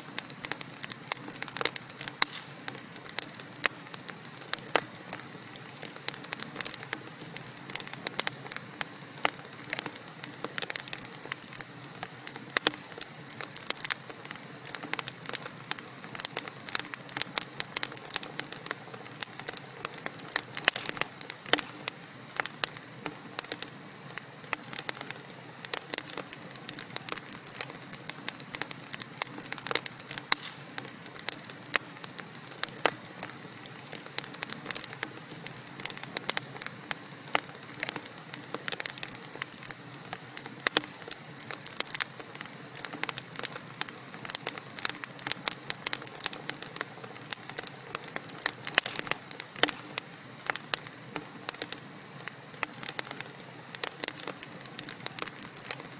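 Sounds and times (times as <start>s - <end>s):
soft fire hiss: 0.0s - 55.9s
fireplace logs crackling: 0.1s - 55.9s.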